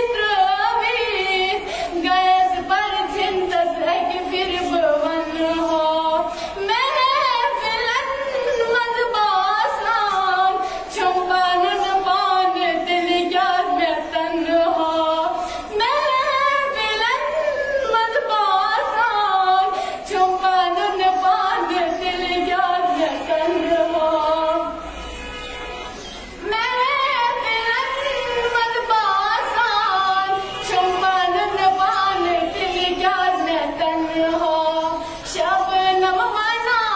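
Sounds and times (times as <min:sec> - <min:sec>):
girl singing unaccompanied: 0:00.0 - 0:24.8, 0:26.4 - 0:36.9.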